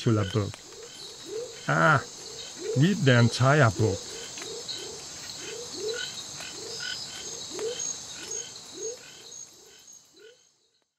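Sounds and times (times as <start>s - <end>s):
frogs chirping: 0.0s - 10.9s.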